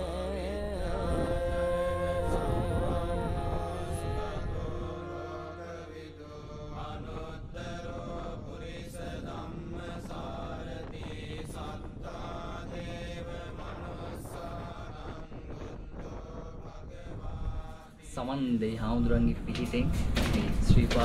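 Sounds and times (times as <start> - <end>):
slow chanting: 0.0 - 18.5
low drone: 0.0 - 20.5
rough gusty noise: 0.0 - 21.0.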